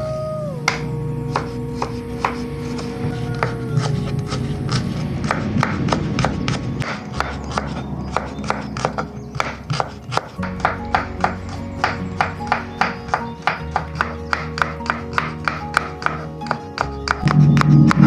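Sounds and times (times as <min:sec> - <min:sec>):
background music: 0:00.0 - 0:18.0
knife chopping on cutting board: 0:00.7 - 0:17.7.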